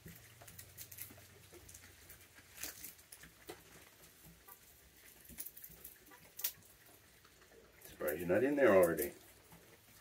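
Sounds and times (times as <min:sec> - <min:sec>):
raccoons handling food: 0:00.0 - 0:10.0.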